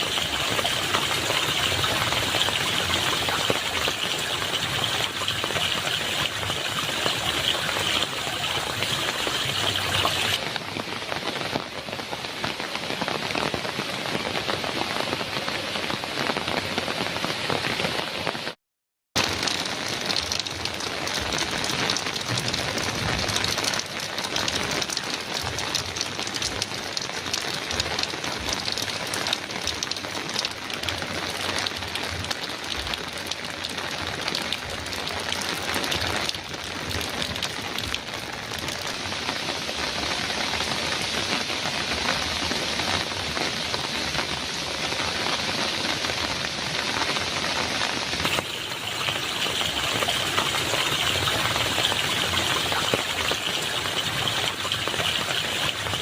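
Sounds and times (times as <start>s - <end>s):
heavy rain on a metal roof: 0.0s - 18.6s, 19.2s - 56.0s.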